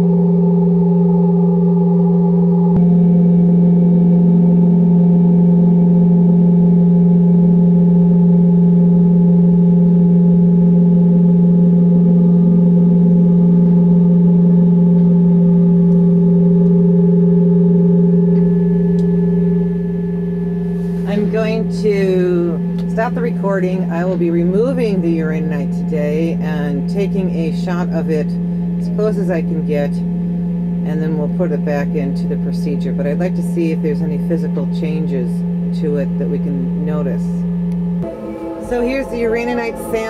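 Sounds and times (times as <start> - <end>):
higher steady electronic tones: 0.0 - 32.8, 33.6 - 40.0
low electronic droning tone: 0.0 - 40.0.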